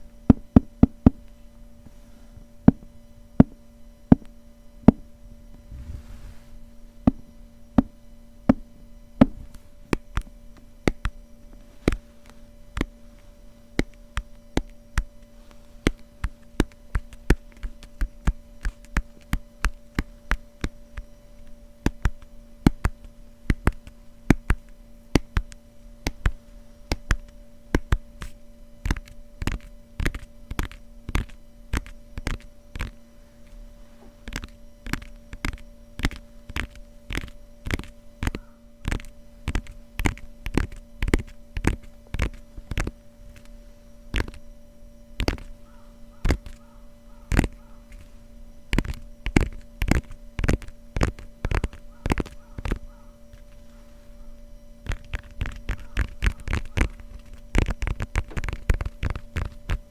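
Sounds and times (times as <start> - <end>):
steady low hum: 0.0 - 59.9
fingertips tapping on book cover: 7.8 - 33.0, 34.1 - 43.5, 44.1 - 44.4, 45.2 - 53.8, 54.8 - 59.9.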